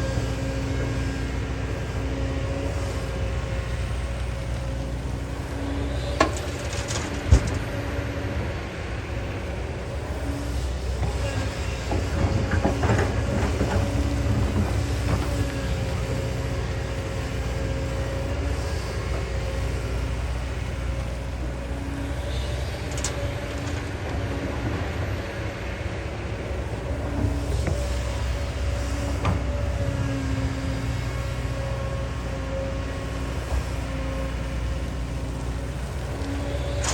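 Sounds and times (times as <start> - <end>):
excavator diesel engine rumbling: 0.0 - 36.9.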